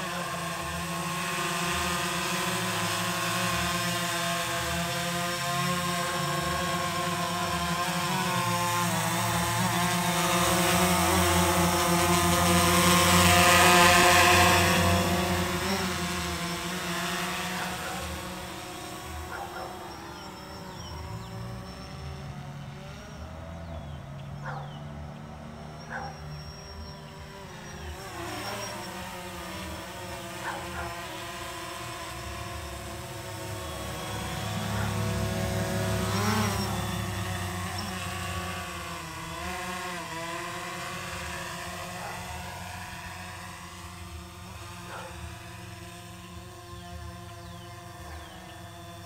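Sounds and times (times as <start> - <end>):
drone propellers buzzing: 0.0 - 49.0.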